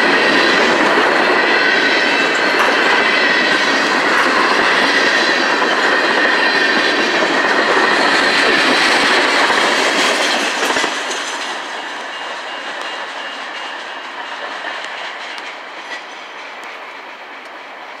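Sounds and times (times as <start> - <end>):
train wheels clacking over rail joints: 0.0 - 18.0
faint high wheel squeal: 1.3 - 18.0.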